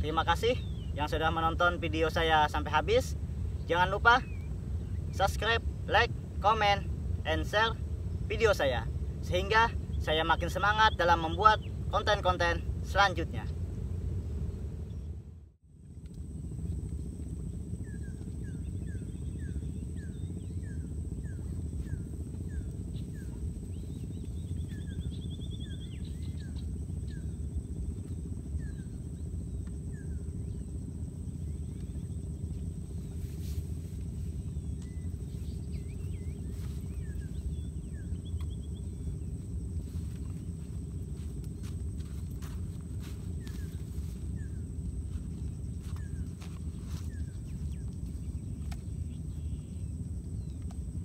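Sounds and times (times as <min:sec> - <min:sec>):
bird chirping: 0:00.0 - 0:15.2, 0:17.7 - 0:33.6, 0:34.2 - 0:50.9
steady low rumble: 0:00.0 - 0:51.0.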